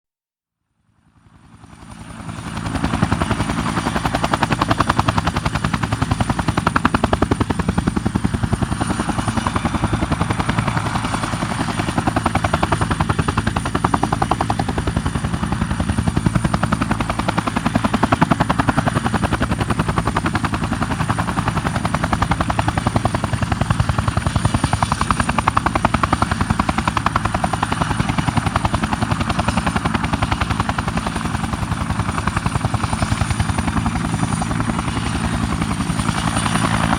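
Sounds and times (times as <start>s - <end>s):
helicopter rotor chop: 1.5s - 36.9s.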